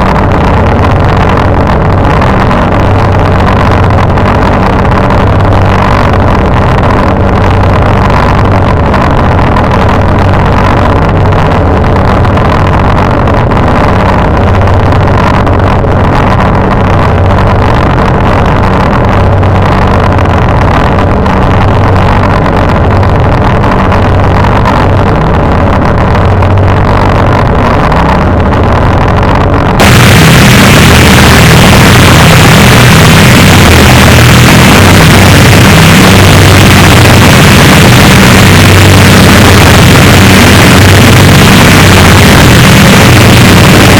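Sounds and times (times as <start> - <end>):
distorted rumble: 0.0 - 43.9
static-like hiss: 0.0 - 43.9
steady low drone: 0.0 - 43.9.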